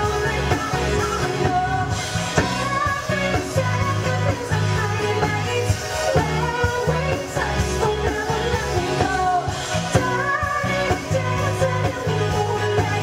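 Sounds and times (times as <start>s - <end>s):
live pop accompaniment with bass: 0.0s - 13.0s
woman singing: 0.0s - 13.0s.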